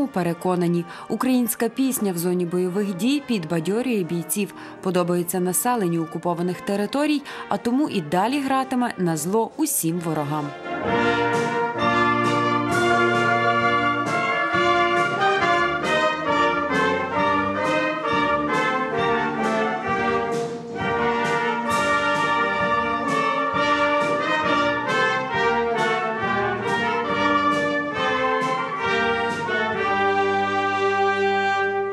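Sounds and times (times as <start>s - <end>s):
brass band playing: 0.0s - 31.9s.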